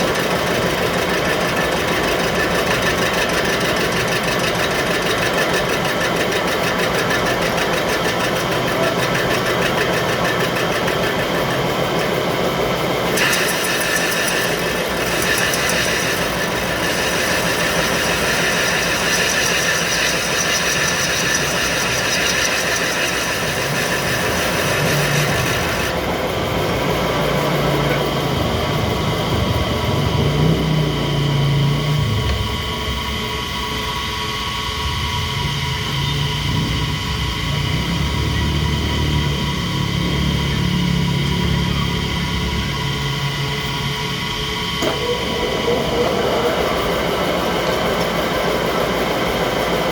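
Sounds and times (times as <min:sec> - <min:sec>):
machine running: 0:00.0 - 0:49.9.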